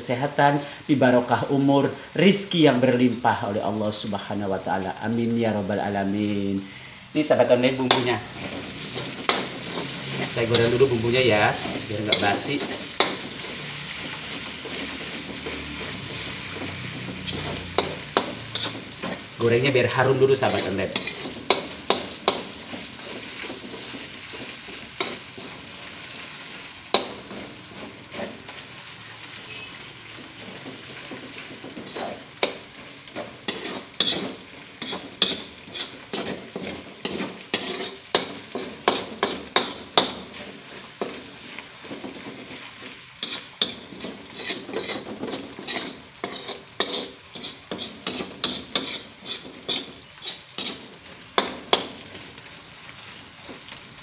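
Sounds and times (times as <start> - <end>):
paste sizzling in oil: 0.0 - 54.0
metal spoon scraping wok: 7.6 - 52.6.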